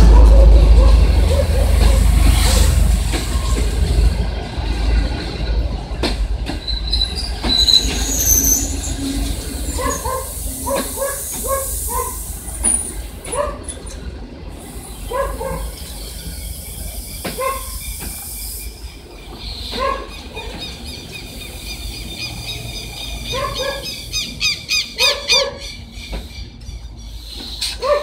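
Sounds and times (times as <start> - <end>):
train coaches rumbling past: 0.0 - 28.0.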